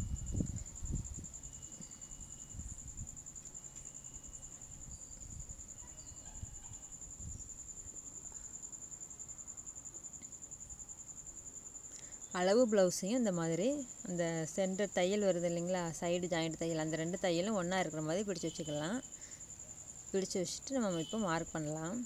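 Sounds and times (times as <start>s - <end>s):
high-pitched insect trill: 0.0s - 22.0s.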